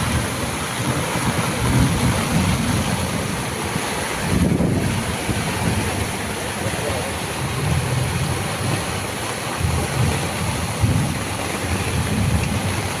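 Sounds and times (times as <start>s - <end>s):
rain hissing: 0.0s - 13.0s
wind buffeting microphone: 0.0s - 13.0s.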